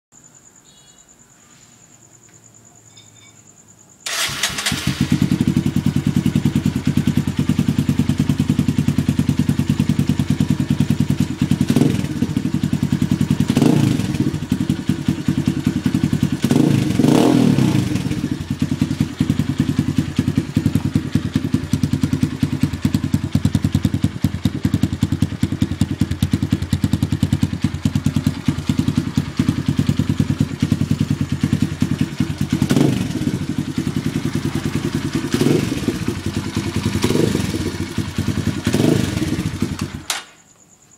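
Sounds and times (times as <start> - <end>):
motorcycle engine idling: 4.1 - 40.1.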